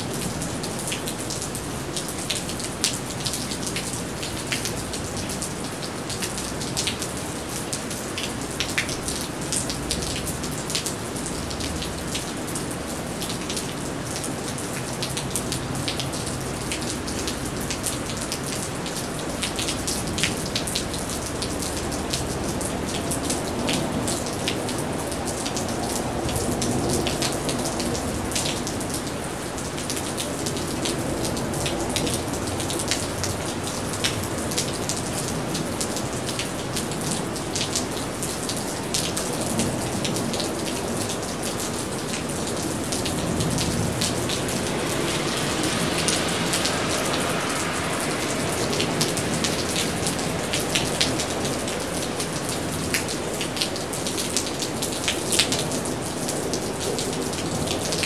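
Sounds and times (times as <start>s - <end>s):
rain on wet street: 0.0s - 58.0s.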